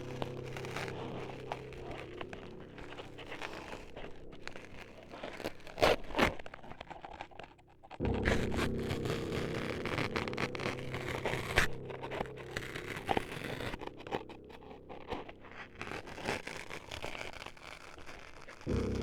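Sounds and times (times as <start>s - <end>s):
low steady hum: 0.0s - 6.5s, 7.8s - 16.8s, 18.7s - 19.0s
scratching on microphone: 0.0s - 19.0s.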